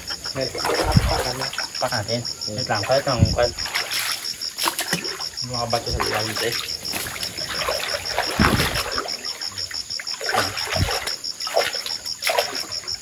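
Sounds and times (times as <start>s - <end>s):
water sloshing: 0.0s - 13.0s
water splashing and dribbling: 0.0s - 13.0s.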